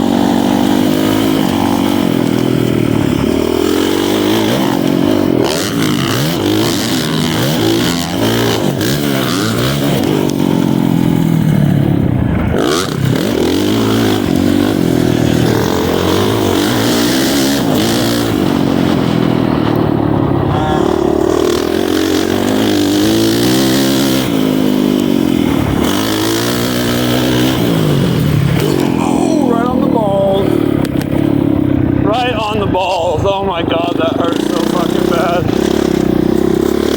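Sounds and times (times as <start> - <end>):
motocross bike engine revving: 0.0 - 36.9.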